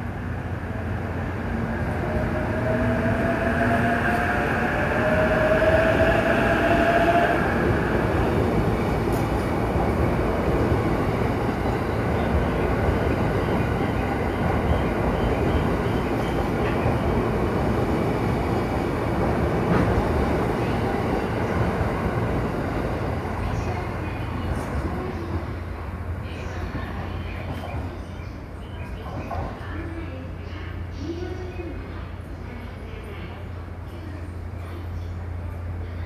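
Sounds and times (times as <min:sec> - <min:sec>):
train wheels rumbling on rail: 0:00.8 - 0:36.0.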